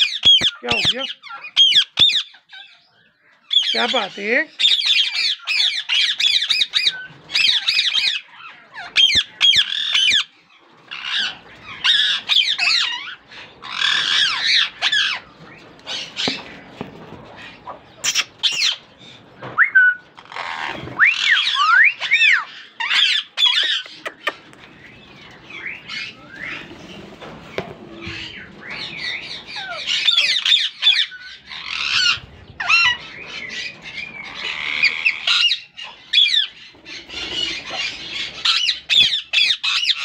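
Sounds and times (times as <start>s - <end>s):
parakeets screeching: 0.0s - 40.0s.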